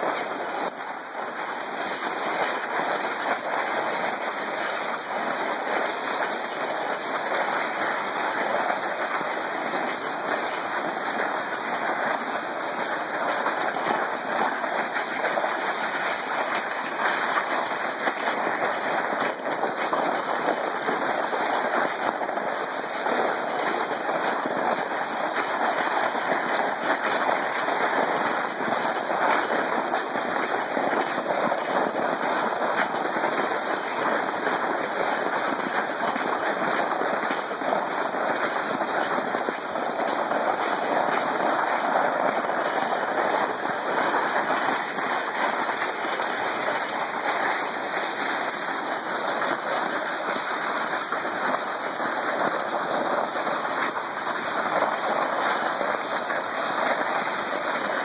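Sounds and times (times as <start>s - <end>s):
plastic sled scraping over snow: 0.0s - 58.0s.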